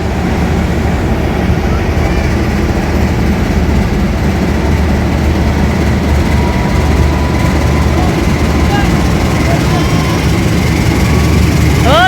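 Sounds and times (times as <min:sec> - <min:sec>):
locomotive engine rumble: 0:00.0 - 0:12.0.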